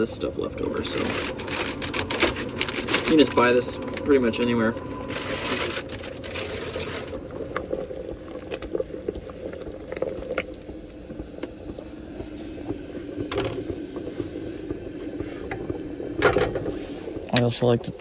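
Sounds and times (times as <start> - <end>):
sauce bubbling in a pot: 0.0 - 18.0.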